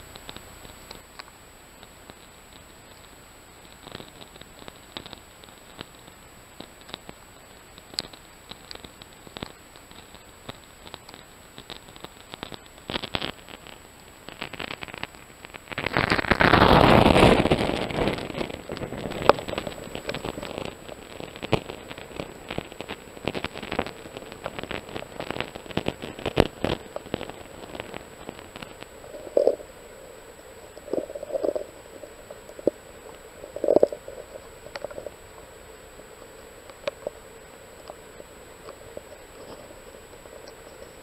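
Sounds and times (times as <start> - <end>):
crackling clicks underwater: 0.0 - 41.0.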